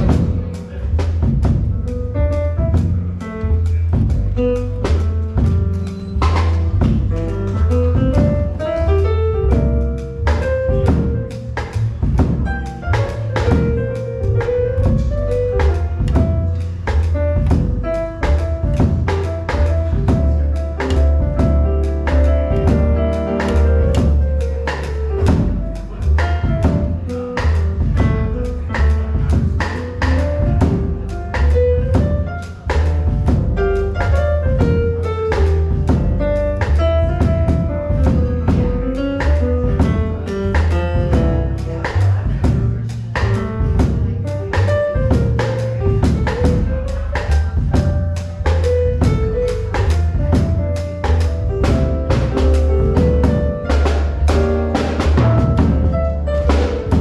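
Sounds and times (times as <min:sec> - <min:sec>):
drum kit beat: 0:00.0 - 0:57.0
plucked double bass: 0:00.0 - 0:57.0
electric keyboard: 0:02.1 - 0:42.5, 0:43.7 - 0:57.0.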